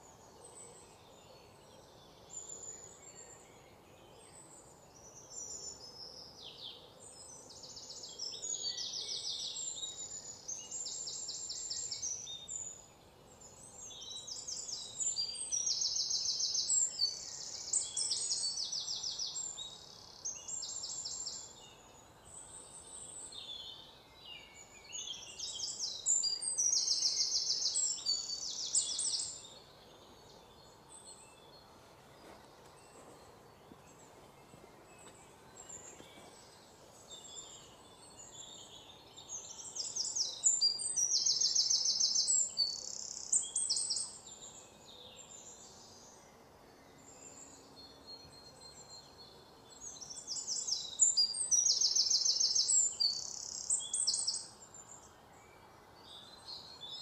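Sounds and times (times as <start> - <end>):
low steady hiss: 0.0 - 57.0.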